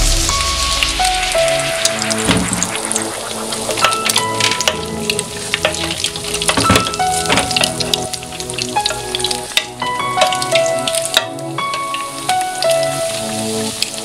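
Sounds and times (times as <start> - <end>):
bread sizzling in hot oil: 0.0 - 14.0.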